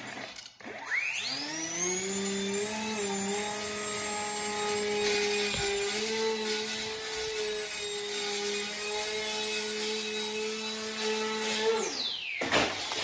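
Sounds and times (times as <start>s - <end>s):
electric motor and propeller whine: 0.8s - 12.9s.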